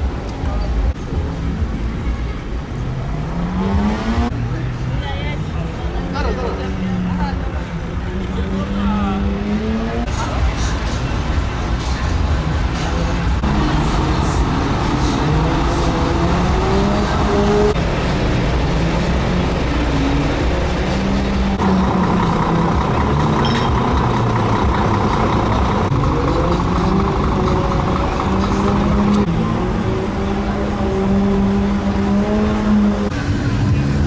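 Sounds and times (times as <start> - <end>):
truck diesel engines revving: 0.0 - 34.0.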